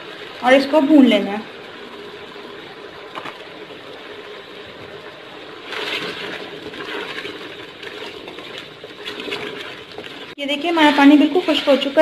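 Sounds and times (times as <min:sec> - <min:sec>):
wooden spatula stirring: 0:01.6 - 0:12.0.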